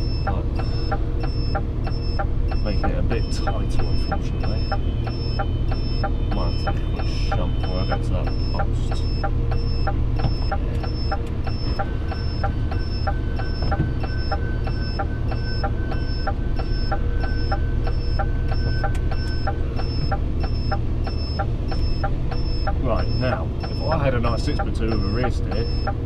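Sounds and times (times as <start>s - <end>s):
diesel engine rumble: 0.0s - 26.0s
turn signal ticking: 0.0s - 26.0s.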